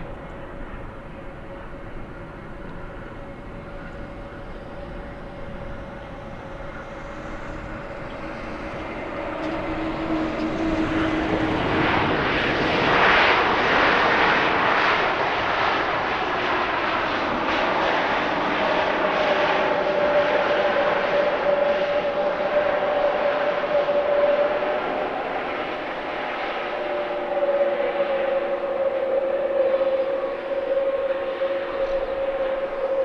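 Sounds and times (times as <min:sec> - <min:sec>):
jet airliner engines roaring: 0:00.0 - 0:33.0.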